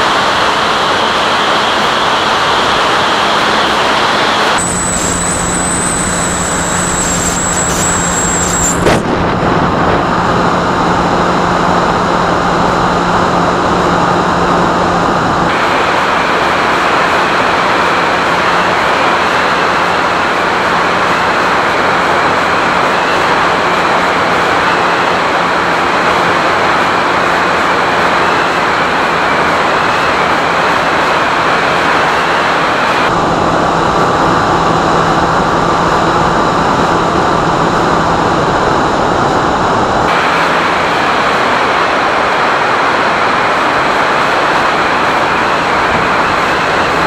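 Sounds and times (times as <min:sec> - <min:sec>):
electric motor and propeller: 0:00.0 - 0:47.0
thin high whine: 0:00.0 - 0:47.0
wind rush: 0:00.0 - 0:47.0.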